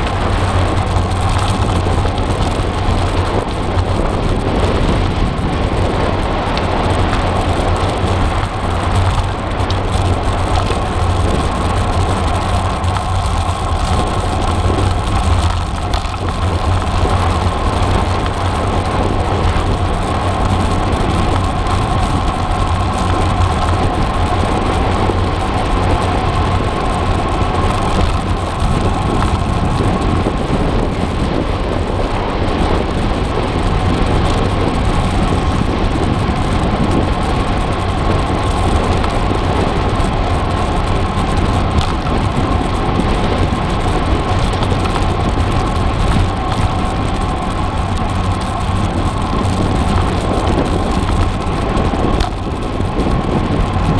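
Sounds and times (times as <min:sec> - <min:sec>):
bicycle tyres rolling on road: 0:00.0 - 0:53.9
wind on microphone: 0:00.0 - 0:53.9.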